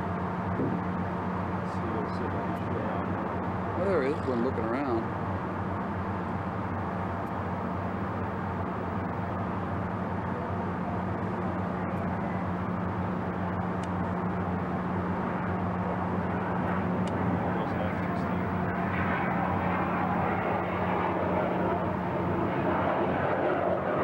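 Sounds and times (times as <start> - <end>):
ship machinery hum: 0.0 - 24.0.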